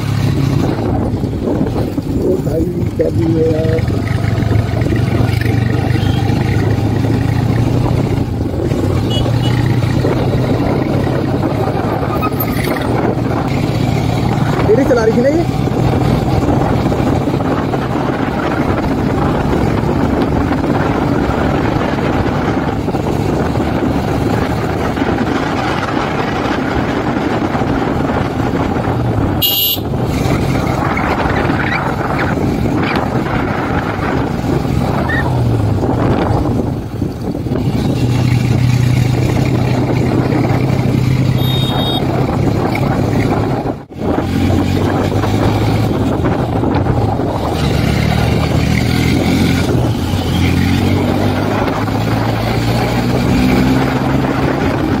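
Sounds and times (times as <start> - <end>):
motorcycle engine running: 0.0 - 52.7
road noise: 0.0 - 55.0
rushing wind: 0.0 - 55.0.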